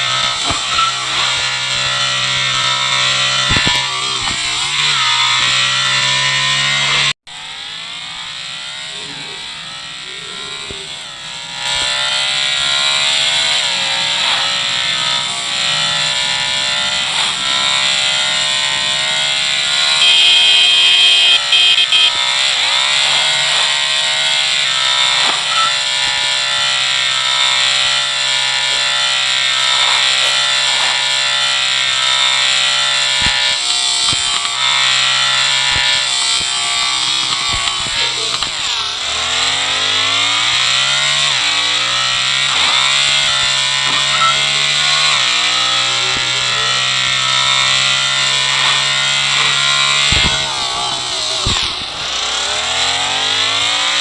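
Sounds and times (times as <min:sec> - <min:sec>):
motorcycle engine high revs whine: 0:00.0 - 0:54.0.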